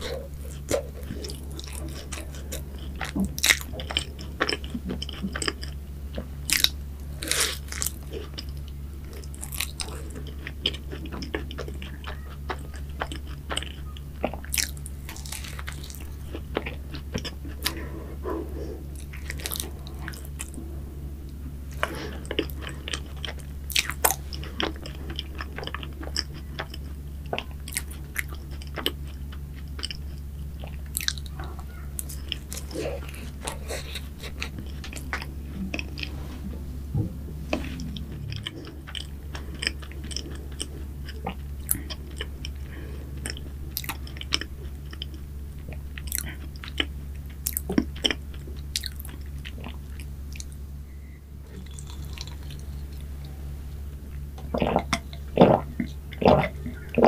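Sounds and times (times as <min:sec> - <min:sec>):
chewing crisp pastry: 0:00.0 - 0:36.6, 0:37.4 - 0:50.8, 0:51.5 - 0:57.0.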